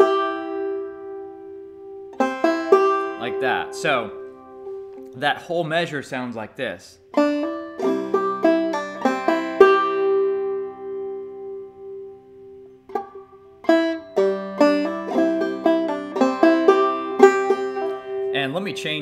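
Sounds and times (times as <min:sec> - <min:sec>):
banjo plucked notes: 0:00.0 - 0:06.0, 0:07.1 - 0:19.0.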